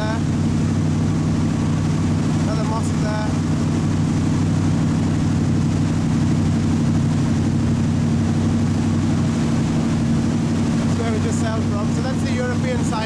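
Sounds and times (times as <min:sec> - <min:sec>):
ferry engine drone: 0:00.0 - 0:13.0
water and air noise: 0:00.0 - 0:13.0.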